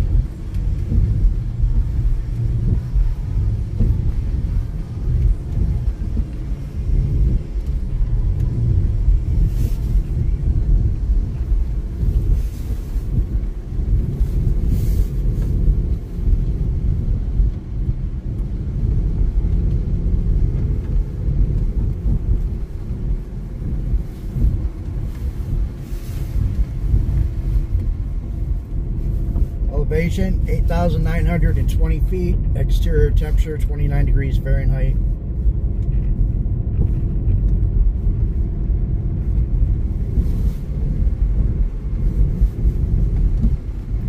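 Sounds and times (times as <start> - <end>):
car engine and tyres rumbling: 0.0 - 44.0.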